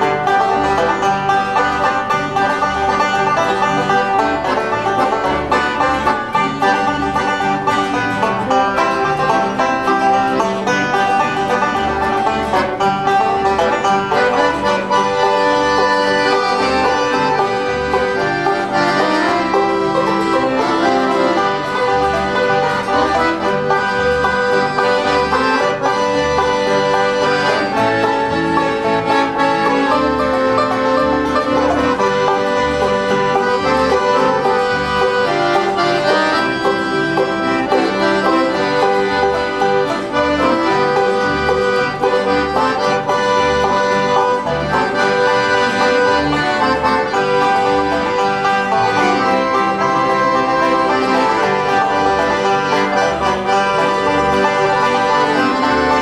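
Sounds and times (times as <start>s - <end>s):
banjo picking: 0.0s - 56.0s
bass plucking a steady beat: 0.0s - 56.0s
guitar chords: 0.0s - 56.0s.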